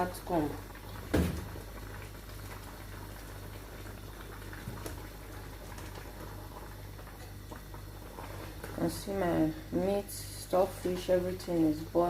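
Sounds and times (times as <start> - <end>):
pot boiling and bubbling: 0.0 - 12.0.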